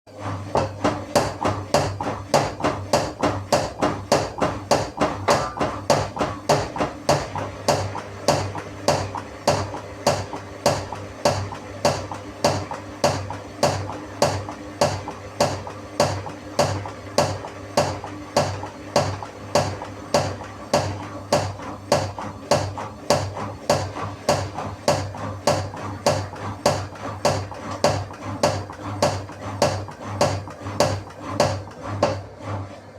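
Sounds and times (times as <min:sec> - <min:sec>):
washing machine motor hum: 0:00.1 - 0:32.9
washing machine drum knocking: 0:00.2 - 0:32.3.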